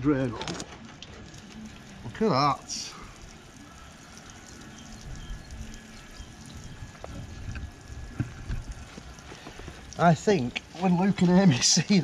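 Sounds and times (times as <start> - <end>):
water pouring from drain hole: 0.3 - 12.0.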